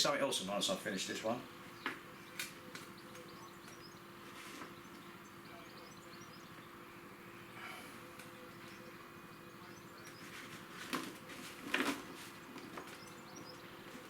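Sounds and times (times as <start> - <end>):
low hum: 0.7 - 14.0.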